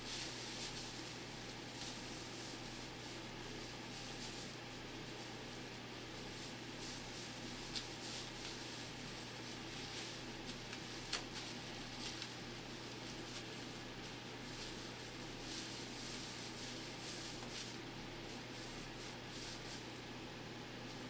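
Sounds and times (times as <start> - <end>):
hands working hair and fabric: 0.0 - 21.0
steady low hum: 0.0 - 21.0.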